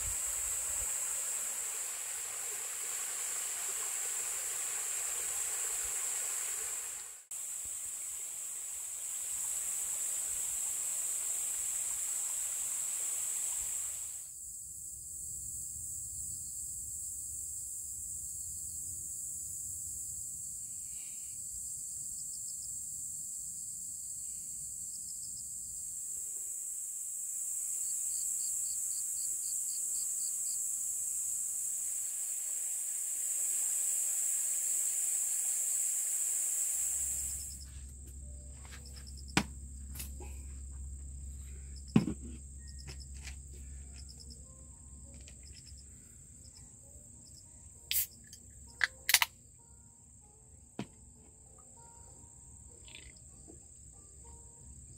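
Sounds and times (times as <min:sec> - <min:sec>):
insects chirping chorus: 0:00.0 - 0:54.9
steady high insect tone: 0:00.0 - 0:54.9
pulsed insect trills: 0:07.4 - 0:50.8, 0:51.4 - 0:54.9.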